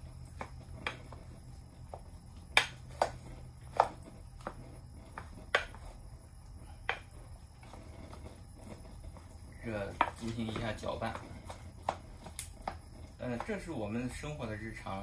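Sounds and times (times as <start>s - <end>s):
spatula scraping: 0.0s - 13.6s
low steady hum: 0.0s - 15.0s.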